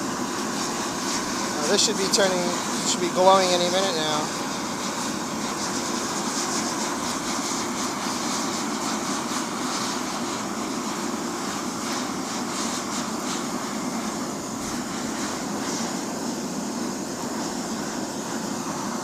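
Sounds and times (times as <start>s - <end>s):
air blower rushing into furnace: 0.0s - 19.0s.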